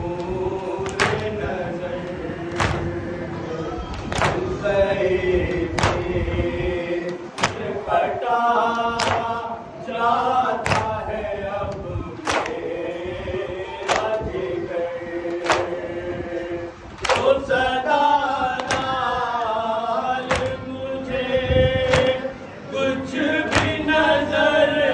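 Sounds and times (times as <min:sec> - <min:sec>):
men chanting a lament: 0:00.0 - 0:24.9
person reciting into microphone: 0:00.0 - 0:24.9.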